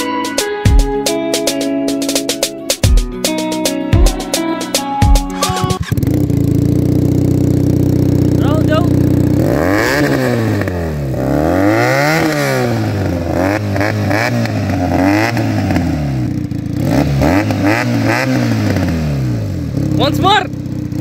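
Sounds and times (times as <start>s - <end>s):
motorcycle engine revving: 3.8s - 21.0s.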